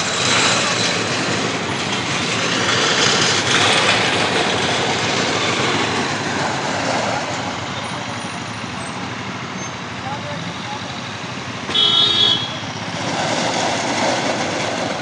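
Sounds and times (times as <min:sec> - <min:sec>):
road traffic noise: 0:00.0 - 0:15.0
vehicle engine running close by: 0:00.0 - 0:15.0.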